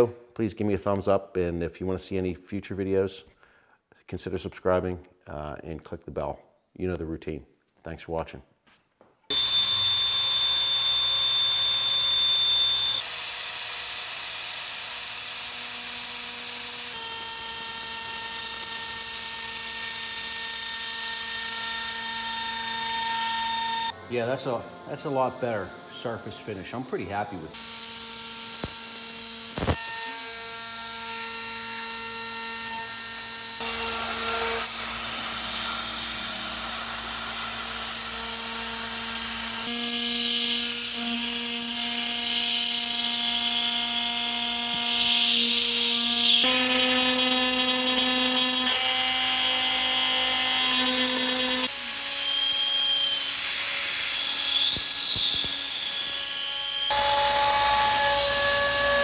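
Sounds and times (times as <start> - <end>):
hissing cutting noise: 9.3 - 32.1, 33.4 - 59.0
router spindle high whine: 9.3 - 59.0.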